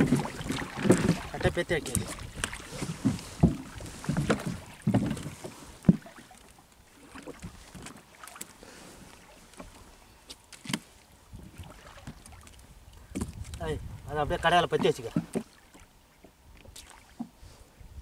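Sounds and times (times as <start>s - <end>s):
faint wind: 0.0s - 18.0s.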